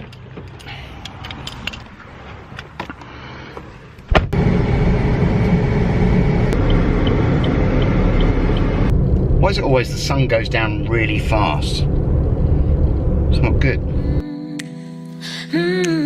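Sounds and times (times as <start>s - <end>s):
car engine and road noise: 0.0s - 14.2s.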